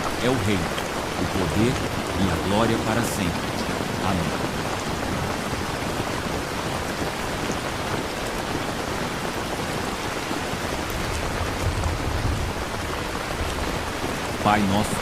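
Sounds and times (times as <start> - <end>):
steady rain: 0.0 - 15.0
waterfall rushing: 0.0 - 15.0.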